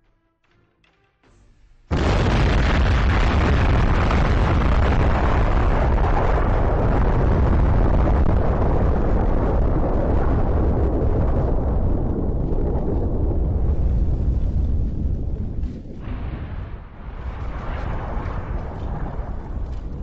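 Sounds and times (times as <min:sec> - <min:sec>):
loud rumbling rush: 0:01.9 - 0:20.0.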